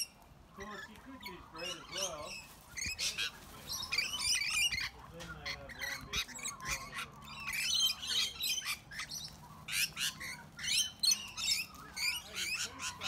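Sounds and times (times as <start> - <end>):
parrots screeching: 0.0 - 13.0.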